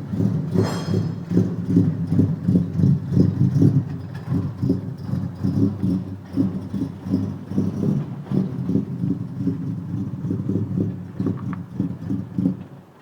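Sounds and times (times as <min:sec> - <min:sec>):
engine uneven rumble: 0:00.0 - 0:13.0.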